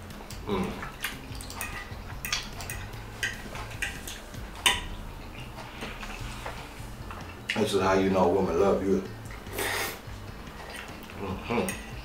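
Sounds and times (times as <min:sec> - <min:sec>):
chewing: 0:00.0 - 0:07.6, 0:09.3 - 0:12.0.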